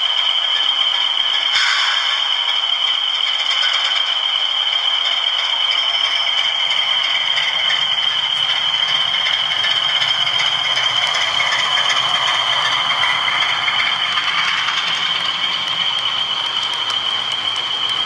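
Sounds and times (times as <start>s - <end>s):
model locomotive engine sound: 0.0s - 18.0s
steady high-pitched tone: 0.0s - 18.0s
wheels rattling on model track: 0.0s - 18.0s.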